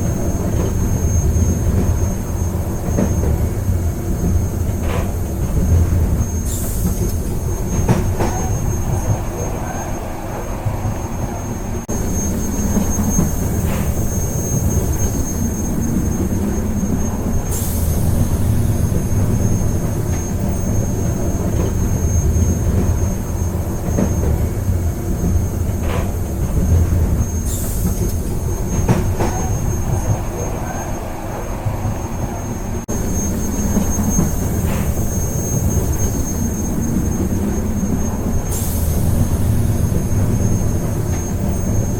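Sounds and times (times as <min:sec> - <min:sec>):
train rumble: 0:00.0 - 0:41.9.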